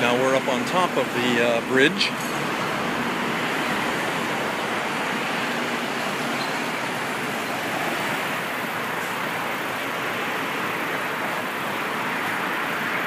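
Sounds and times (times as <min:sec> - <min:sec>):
busy road traffic: 0:00.0 - 0:13.0.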